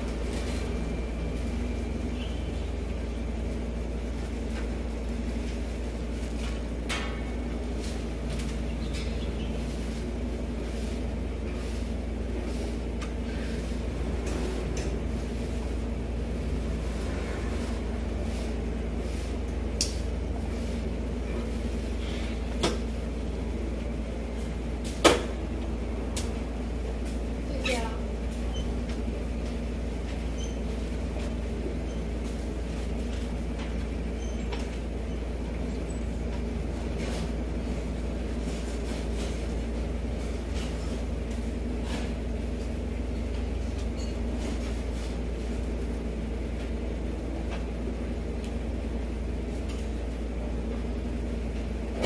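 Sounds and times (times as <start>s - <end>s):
low street rumble: 0.0s - 52.0s.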